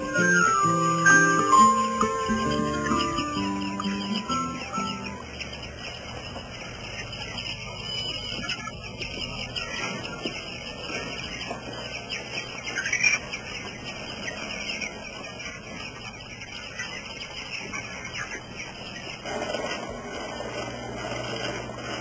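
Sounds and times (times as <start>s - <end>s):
high-pitched chirring: 0.0s - 22.0s
animal calls: 0.1s - 22.0s.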